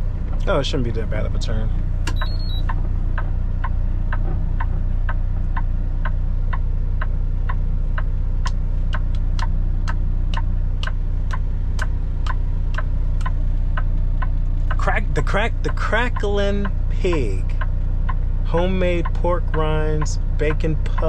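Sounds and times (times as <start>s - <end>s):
truck engine idling: 0.0s - 21.0s
turn signal ticking: 0.0s - 21.0s.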